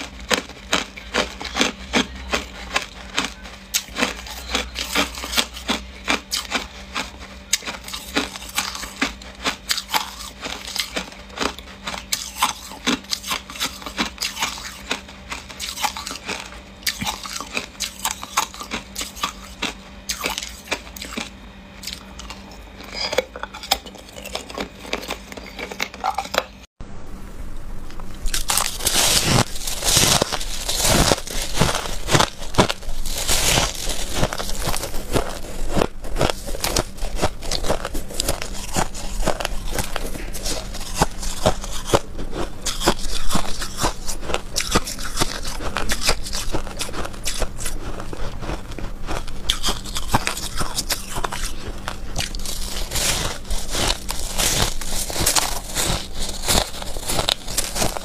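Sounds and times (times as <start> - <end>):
person crunching ice: 0.0 - 26.5, 28.2 - 58.0.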